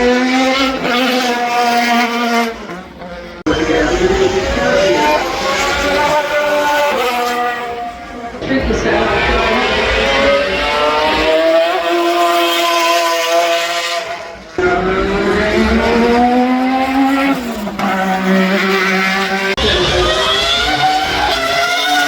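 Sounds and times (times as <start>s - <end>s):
racing car engines accelerating: 0.0s - 22.0s.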